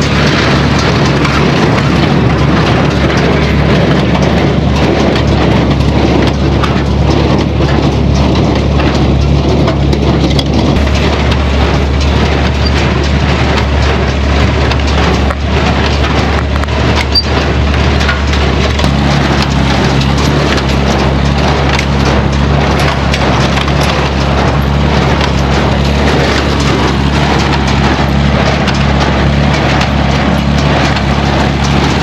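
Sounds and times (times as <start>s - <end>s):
hay machinery rattling: 0.0s - 32.0s
tractor engine running: 0.0s - 32.0s.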